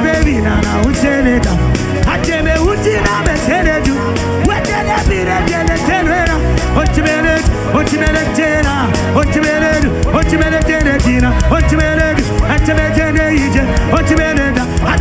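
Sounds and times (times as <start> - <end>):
live worship band music: 0.0 - 15.0
pitch-bending melody line: 0.0 - 15.0
steady drum beat: 0.0 - 15.0.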